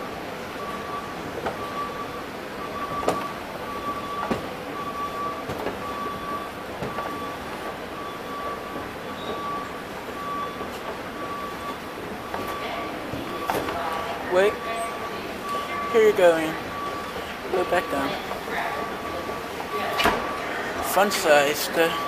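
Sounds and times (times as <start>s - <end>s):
escalator mechanical hum: 0.0s - 22.0s.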